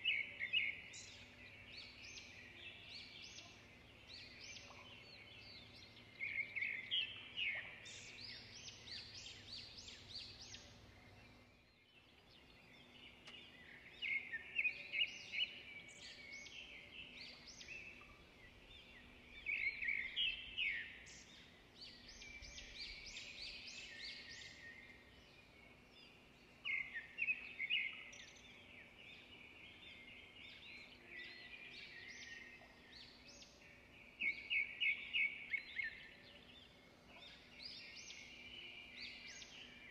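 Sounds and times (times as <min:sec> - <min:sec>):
faint steady hum: 0:00.0 - 0:39.9
small birds chirping: 0:00.0 - 0:39.9.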